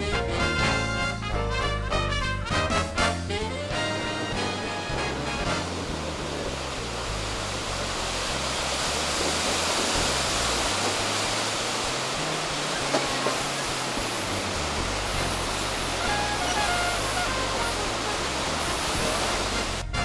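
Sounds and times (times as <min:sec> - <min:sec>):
whitewater rapids rushing: 0:03.6 - 0:19.9.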